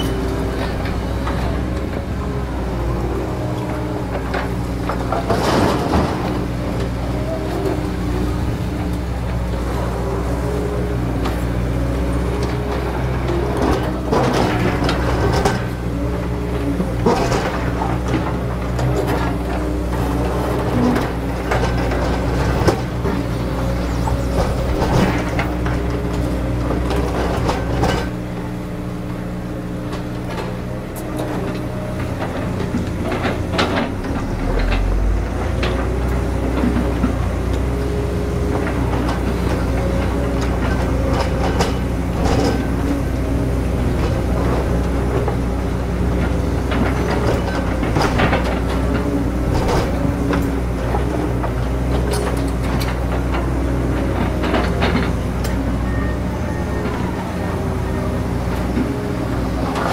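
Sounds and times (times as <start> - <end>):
excavator diesel engine under load: 0.0 - 59.9.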